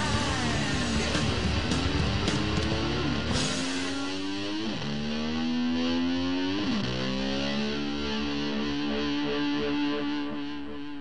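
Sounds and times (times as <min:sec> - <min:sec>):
distorted electric guitar: 0:00.0 - 0:11.0.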